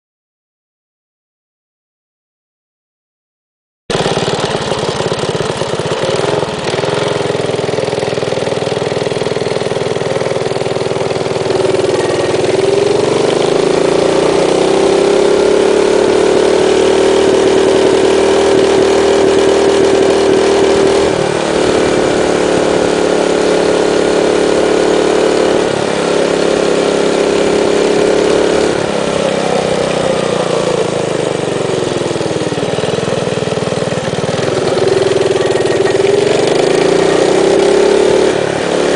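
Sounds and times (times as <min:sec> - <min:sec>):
minibike engine running: 0:03.9 - 0:38.9.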